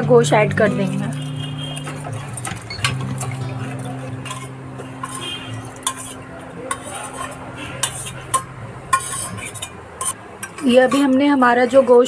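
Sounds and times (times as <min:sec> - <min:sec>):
metal spoon scraping a pot: 0:01.4 - 0:12.0.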